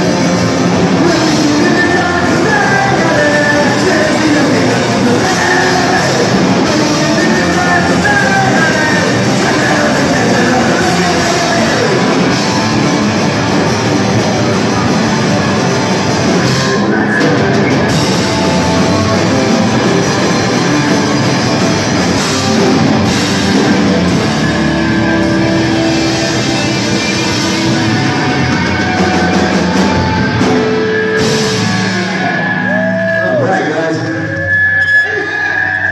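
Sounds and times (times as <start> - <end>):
drum kit: 0.0 - 34.1
electric guitar: 0.0 - 35.9.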